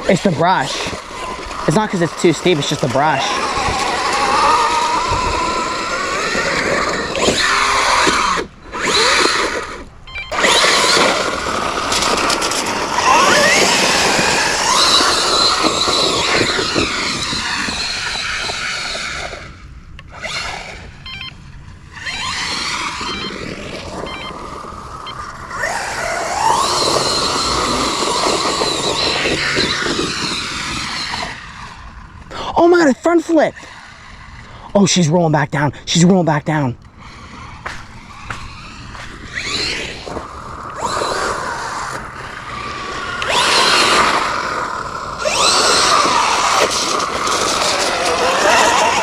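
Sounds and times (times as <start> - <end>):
electric motor whining: 0.0 - 34.8, 35.5 - 49.0
drivetrain grinding: 0.0 - 49.0.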